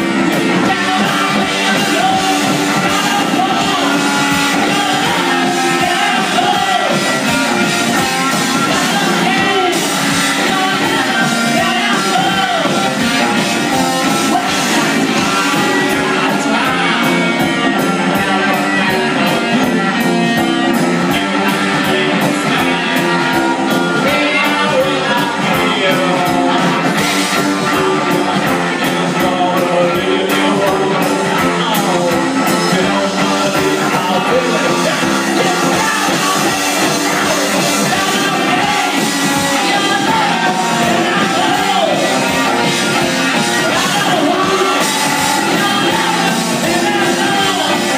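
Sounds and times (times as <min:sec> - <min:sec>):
drums: 0:00.0 - 0:47.9
electric guitar: 0:00.0 - 0:47.9
person singing: 0:00.0 - 0:47.9.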